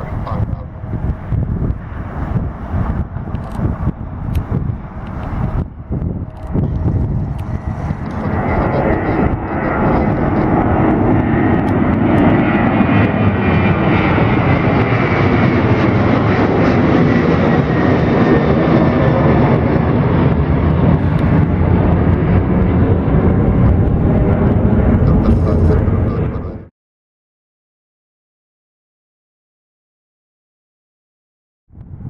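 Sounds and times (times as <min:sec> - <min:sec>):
jet airliner engines running: 0:00.0 - 0:26.7.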